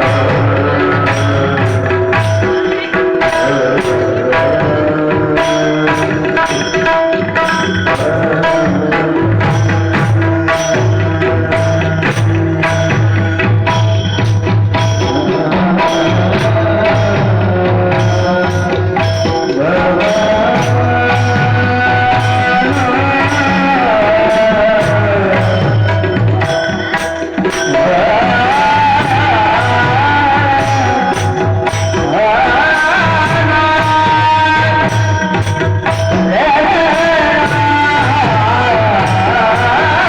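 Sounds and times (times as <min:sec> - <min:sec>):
man singing devotional song: 0:00.0 - 0:40.0
steady percussion beat: 0:00.0 - 0:40.0.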